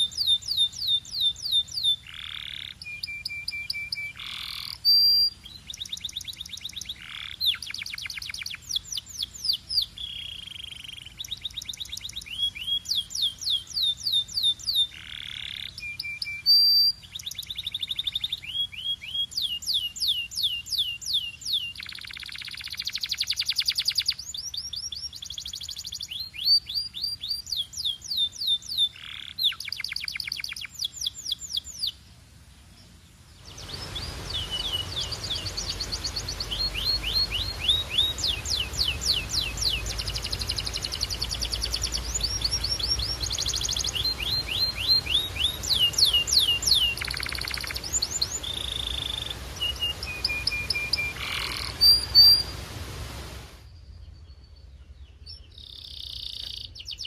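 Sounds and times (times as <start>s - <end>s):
canary singing trills: 0.0s - 32.0s, 33.5s - 52.6s, 55.1s - 57.0s
steady background hiss: 0.0s - 57.0s.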